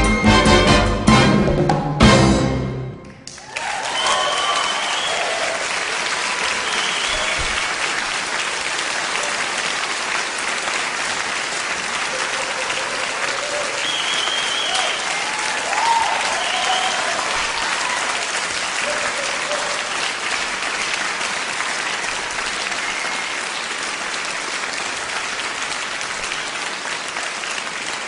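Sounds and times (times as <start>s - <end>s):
audience applauding: 3.0s - 28.0s
people cheering: 3.2s - 28.0s.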